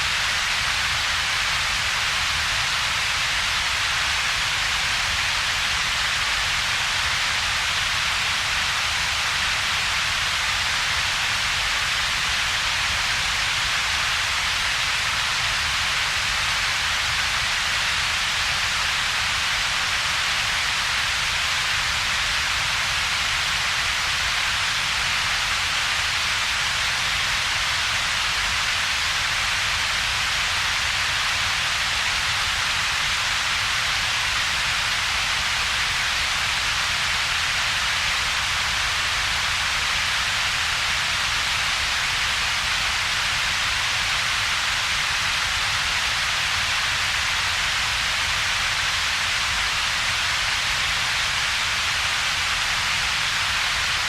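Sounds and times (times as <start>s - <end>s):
synthetic noise hiss: 0.0s - 54.0s.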